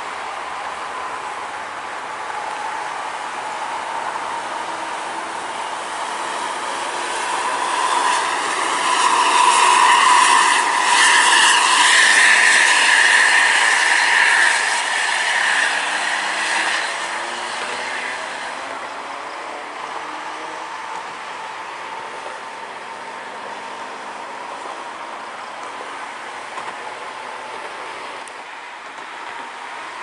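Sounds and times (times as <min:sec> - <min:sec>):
high whine: 0:00.0 - 0:29.0
coach engine and tyre noise: 0:00.0 - 0:30.0.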